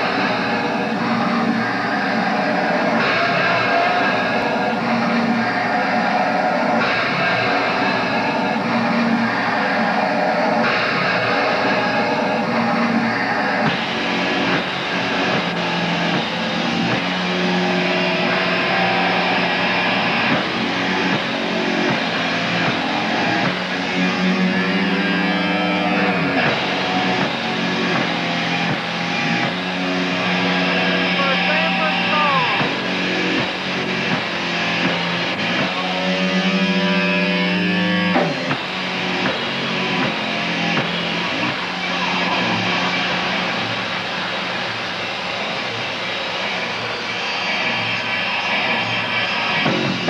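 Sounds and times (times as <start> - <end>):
electric guitar: 0.0 - 50.0
rock band playing: 0.0 - 50.0.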